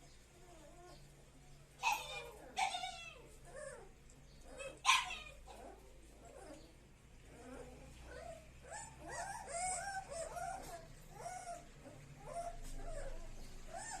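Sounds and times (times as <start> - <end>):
puppies whimpering and yelping: 0.0 - 14.0.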